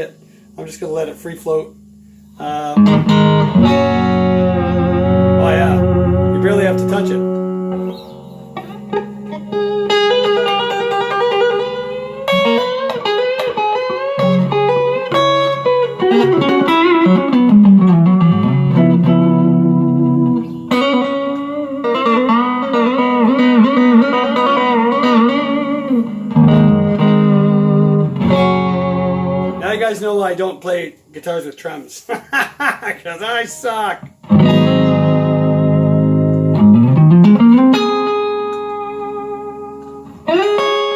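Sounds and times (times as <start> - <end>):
electric guitar through an amp: 0.0 - 30.3, 33.1 - 40.9.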